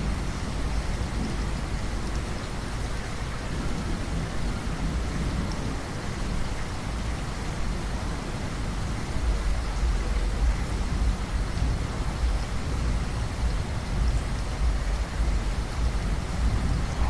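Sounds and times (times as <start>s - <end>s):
heavy rain falling: 0.0s - 17.0s
low rumble of thunder: 0.0s - 17.0s.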